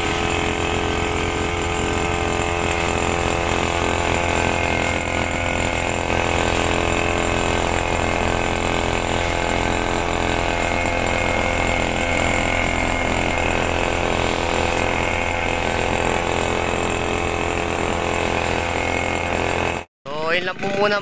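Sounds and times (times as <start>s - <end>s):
brush cutter engine cutting grass: 0.0s - 19.9s.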